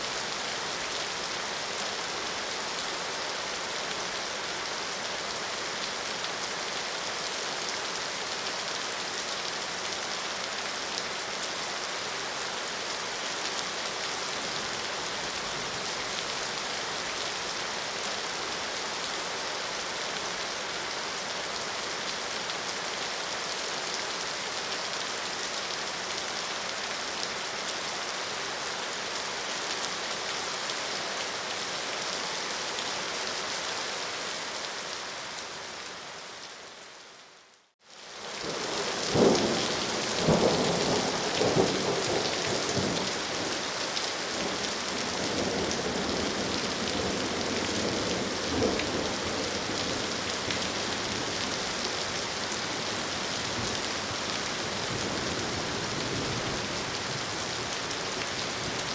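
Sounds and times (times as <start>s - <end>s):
steady rain pattering: 0.0s - 58.9s.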